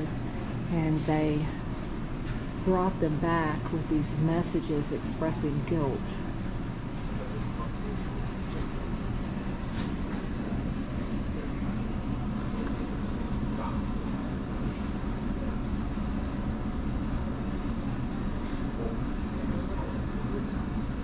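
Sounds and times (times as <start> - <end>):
constant hum: 0.0 - 21.0
low mechanical rumble: 0.0 - 21.0.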